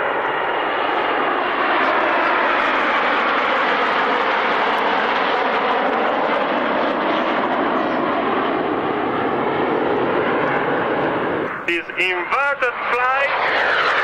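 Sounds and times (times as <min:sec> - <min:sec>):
aircraft engines flying past: 0:00.0 - 0:14.0.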